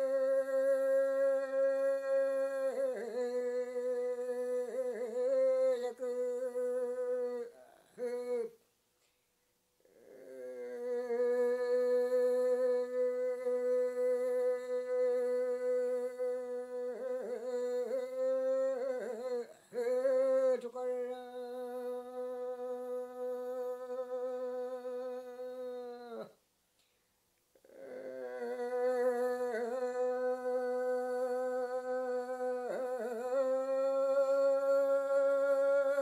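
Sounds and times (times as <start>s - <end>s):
solo person singing: 0.0s - 8.7s, 9.8s - 26.4s, 27.5s - 36.0s.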